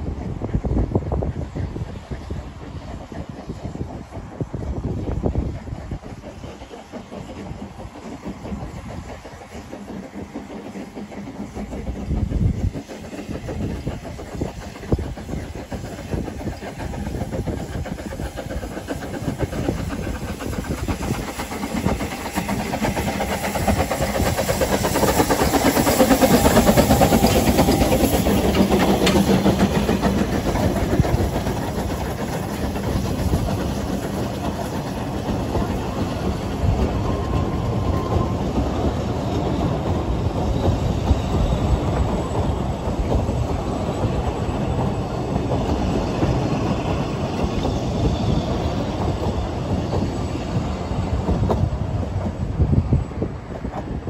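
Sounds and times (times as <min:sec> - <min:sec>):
steam locomotive exhaust and hiss: 0:00.0 - 0:54.0
train wheels clattering over rail joints: 0:01.8 - 0:54.0.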